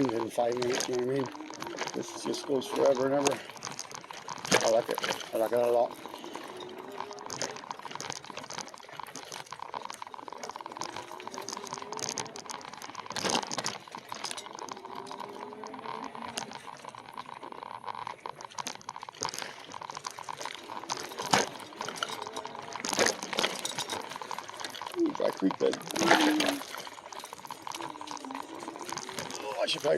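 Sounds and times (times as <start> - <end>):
bike tyres crunching on trail: 0.0 - 29.9
faint motor whine: 0.0 - 29.9
small clicks and knocks: 0.0 - 29.9.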